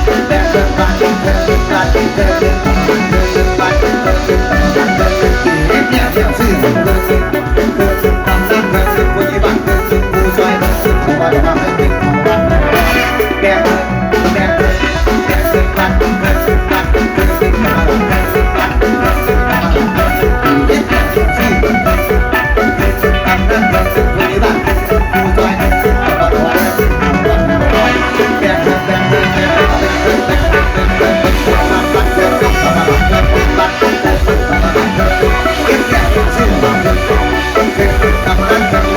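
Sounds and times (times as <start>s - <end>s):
plucked melody: 0.0s - 38.9s
steady drum beat: 0.0s - 38.9s.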